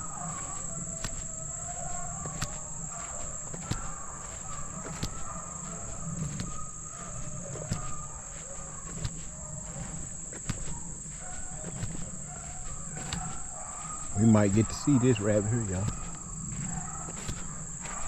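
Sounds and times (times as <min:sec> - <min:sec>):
high-pitched insect drone: 0:00.0 - 0:18.0
sharp crackles: 0:00.0 - 0:18.0.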